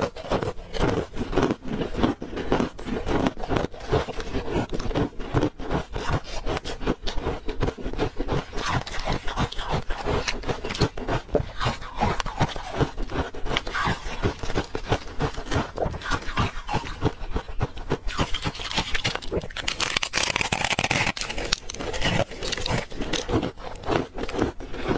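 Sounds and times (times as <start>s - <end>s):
ice being chewed: 0.0s - 24.9s.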